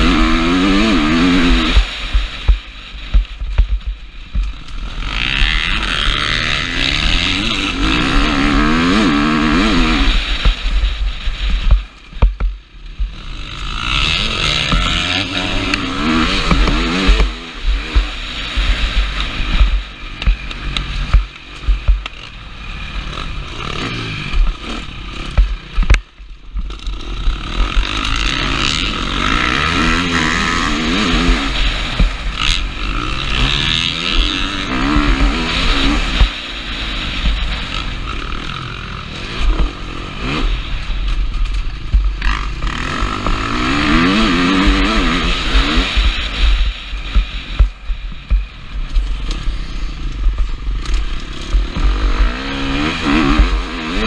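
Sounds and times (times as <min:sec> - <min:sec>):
motocross engine revving: 0:00.0 - 0:03.5, 0:04.1 - 0:12.0, 0:12.6 - 0:54.0
wind rumble on microphone: 0:00.0 - 0:22.2, 0:24.0 - 0:54.0.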